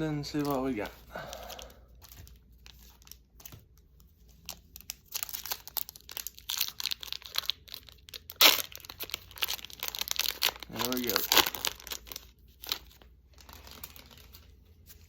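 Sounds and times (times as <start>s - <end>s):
card pack wrapper crinkling: 0.2s - 15.0s.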